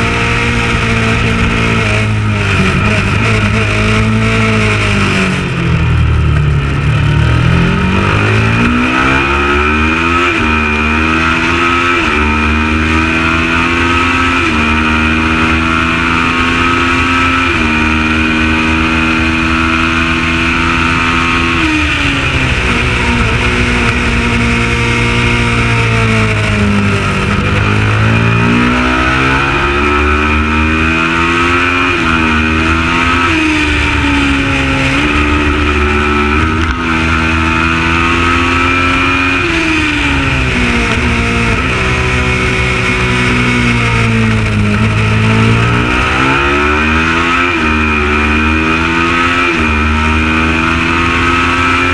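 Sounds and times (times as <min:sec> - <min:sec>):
race motorcycle engine revving: 0:00.0 - 0:51.9.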